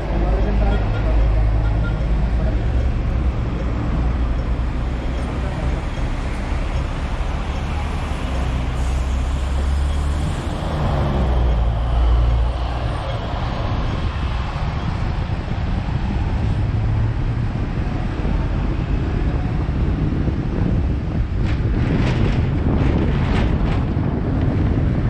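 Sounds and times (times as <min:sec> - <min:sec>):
road traffic: 0:00.0 - 0:25.0
tram rumbling: 0:00.0 - 0:25.0.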